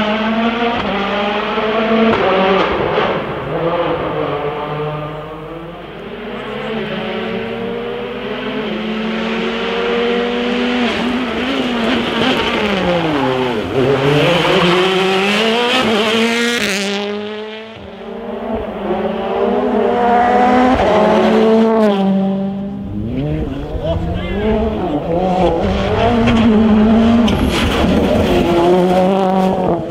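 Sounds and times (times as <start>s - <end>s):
car accelerating through gear changes: 0.0s - 29.9s
rally car engines revving: 0.0s - 29.9s.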